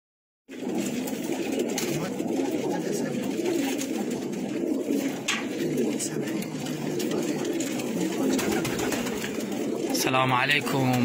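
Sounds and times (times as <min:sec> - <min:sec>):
pigeons cooing: 0:00.5 - 0:11.0.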